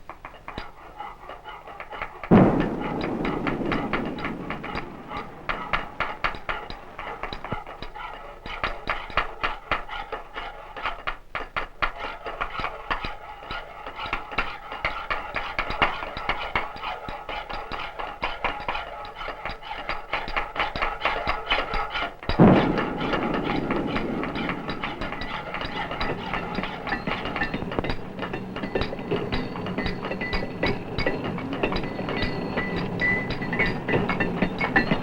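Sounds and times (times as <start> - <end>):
rapid knocking and clicking: 0.0 - 35.0.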